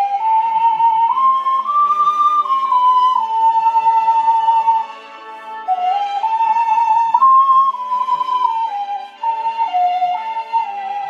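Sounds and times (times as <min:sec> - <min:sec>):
ocarina playing slow melody: 0:00.0 - 0:11.0.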